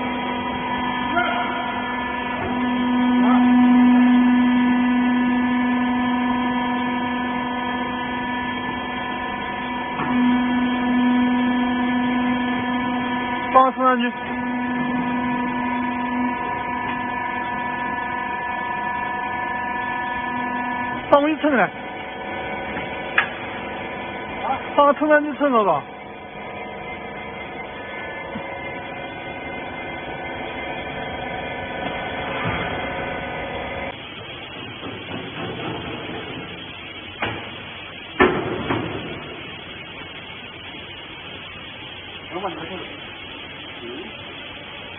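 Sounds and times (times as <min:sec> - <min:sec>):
baler machine humming: 0:00.0 - 0:44.9.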